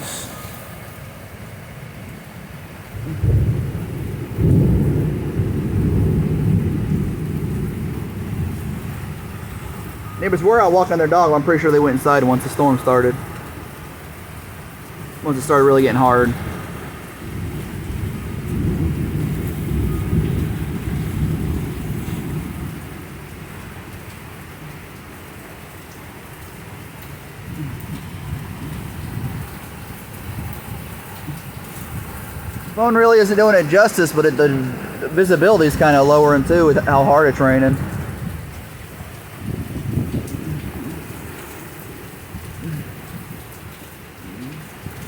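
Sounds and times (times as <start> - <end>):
heavy rain: 0.0 - 45.0
thunder rumbling: 2.8 - 24.9, 26.7 - 45.0.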